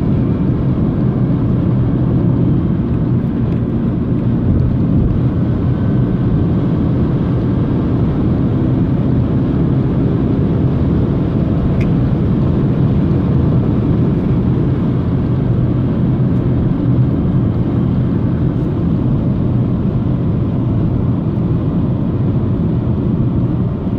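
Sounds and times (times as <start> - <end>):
car road and drivetrain noise: 0.0 - 23.9.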